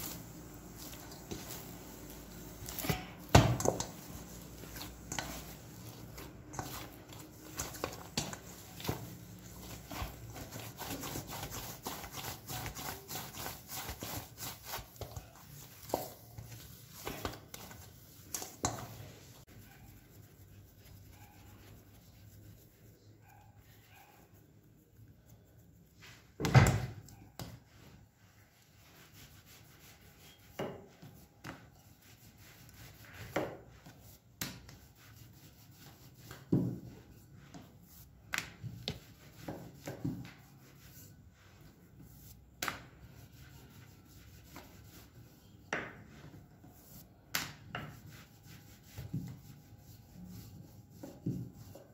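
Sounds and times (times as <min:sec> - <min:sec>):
dough slapping and rubbing: 0:00.0 - 0:51.9.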